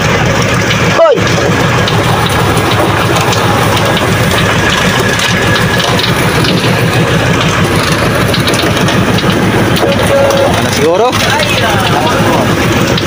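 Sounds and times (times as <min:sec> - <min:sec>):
boat engine running: 0:00.0 - 0:13.0
water rushing along hull: 0:00.0 - 0:13.0.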